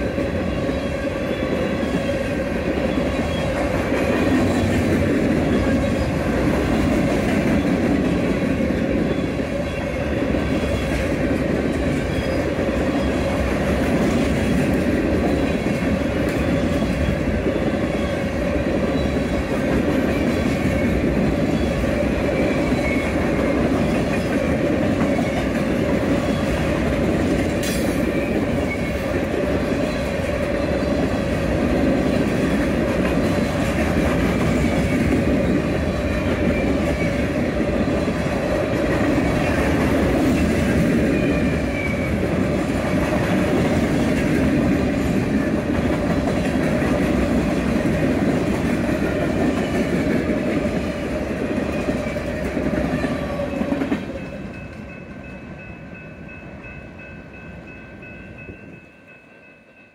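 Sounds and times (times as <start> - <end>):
freight cars rolling on rails: 0.0 - 55.6.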